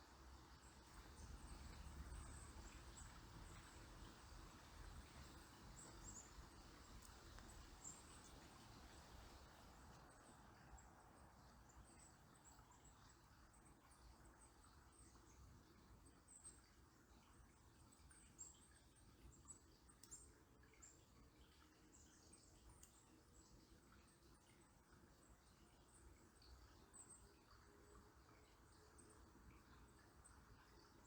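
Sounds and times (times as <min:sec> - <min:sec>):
murmur of river water: 0:00.0 - 0:31.0.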